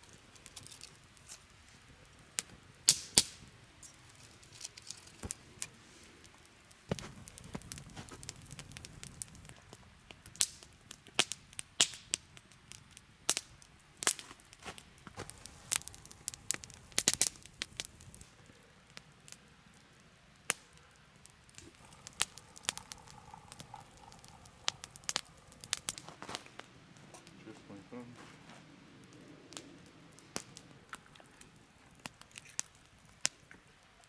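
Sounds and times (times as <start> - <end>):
campfire crackling and popping: 0.0 - 34.0
low hiss of burning: 0.0 - 34.0.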